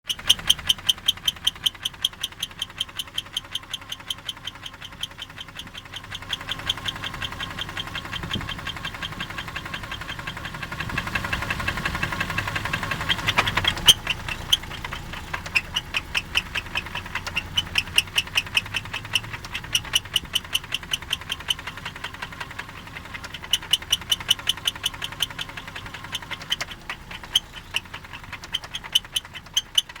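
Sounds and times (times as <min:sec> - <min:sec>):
engine running with knock: 0:00.0 - 0:30.0.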